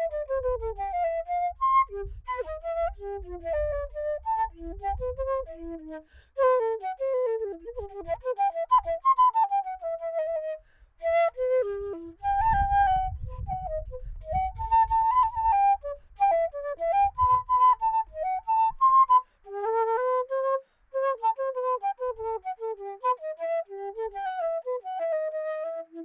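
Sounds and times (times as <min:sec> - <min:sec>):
flute melody: 0:00.0 - 0:26.0.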